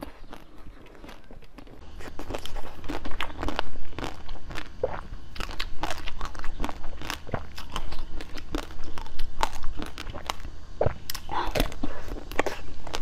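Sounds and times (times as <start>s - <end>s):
crunchy chewing of hard candy: 0.0s - 13.0s.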